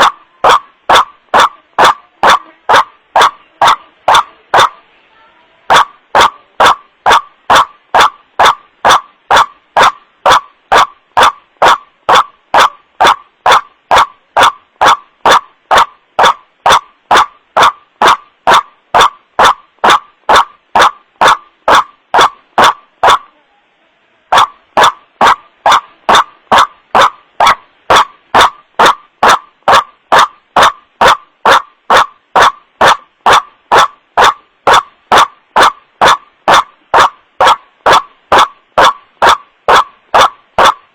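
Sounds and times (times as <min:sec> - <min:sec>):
distorted bird call recording: 0:00.0 - 0:40.9.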